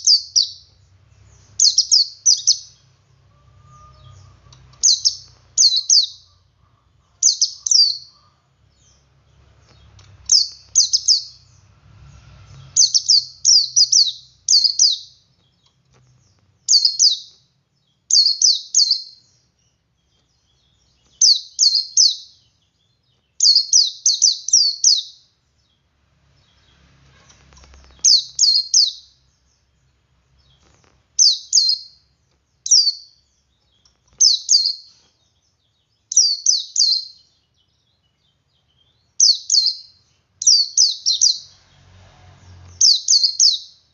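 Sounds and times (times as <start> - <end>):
bird singing high chirps: 0.0 - 25.8, 27.6 - 41.6, 42.5 - 43.9.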